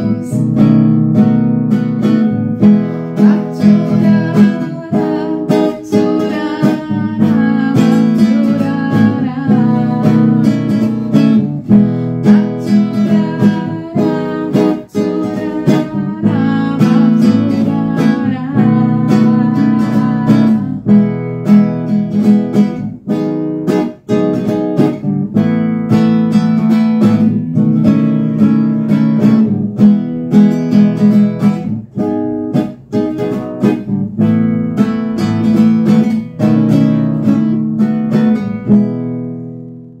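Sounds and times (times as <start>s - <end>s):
classical guitar strumming: 0.0s - 40.0s.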